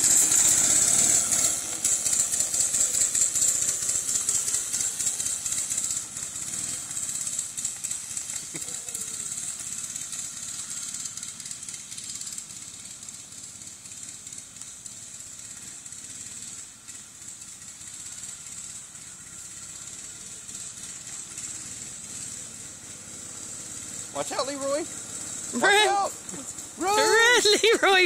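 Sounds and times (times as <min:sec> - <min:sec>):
go-kart engine running: 0:00.0 - 0:28.0.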